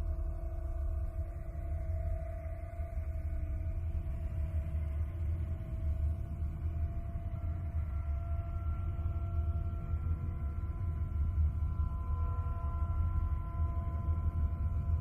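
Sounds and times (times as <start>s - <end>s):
deep rumbling drone: 0.0s - 15.0s
faint steady tones: 0.0s - 15.0s.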